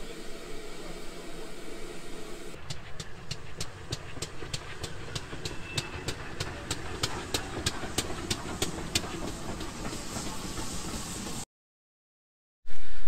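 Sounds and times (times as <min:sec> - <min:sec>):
train rumble: 0:00.0 - 0:11.4.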